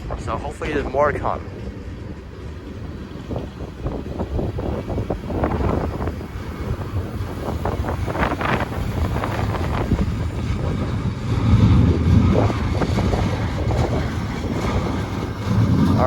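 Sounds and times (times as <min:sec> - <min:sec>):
freight train rumbling past: 0:00.0 - 0:16.0
train wheels clicking and clanking: 0:00.0 - 0:16.0
wind buffeting microphone: 0:00.0 - 0:16.0.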